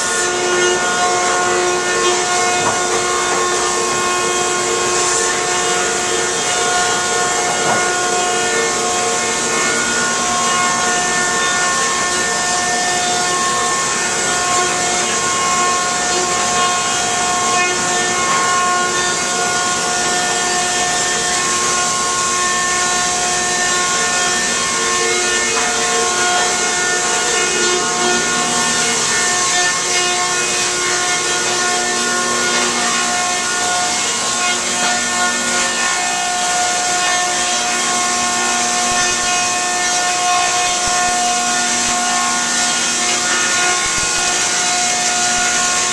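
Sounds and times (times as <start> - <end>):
electric planer running: 0.0 - 45.9.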